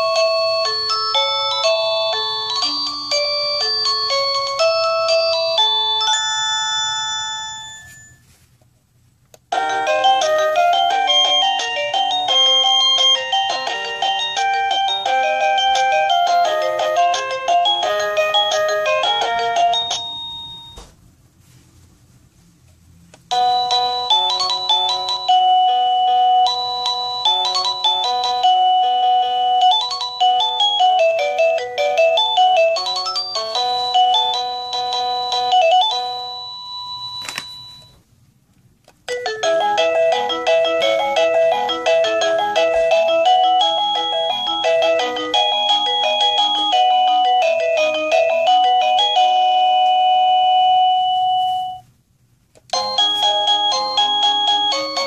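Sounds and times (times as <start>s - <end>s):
doorbell chime melody: 0.0s - 8.4s, 9.5s - 21.0s, 23.3s - 38.0s, 39.1s - 51.9s, 52.7s - 55.0s.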